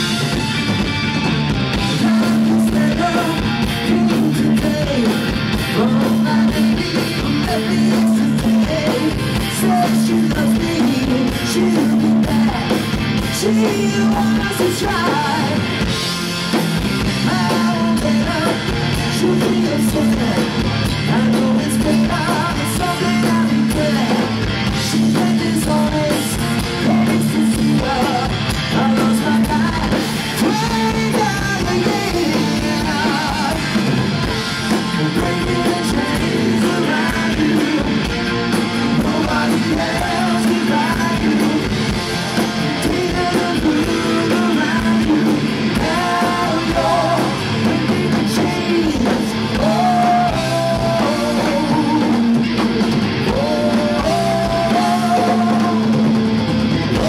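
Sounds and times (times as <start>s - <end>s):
melodic lead guitar line: 0.0s - 57.0s
rock band playing: 0.0s - 57.0s.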